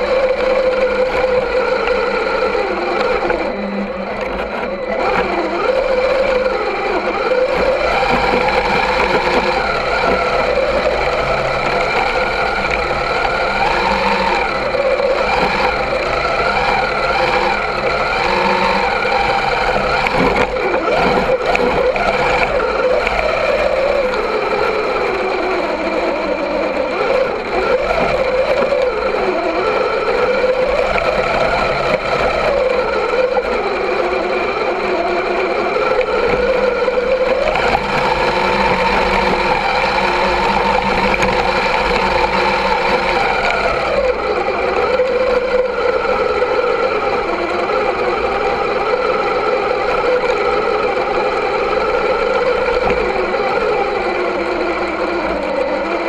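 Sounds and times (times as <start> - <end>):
toy truck electric motor whining: 0.0 - 56.0.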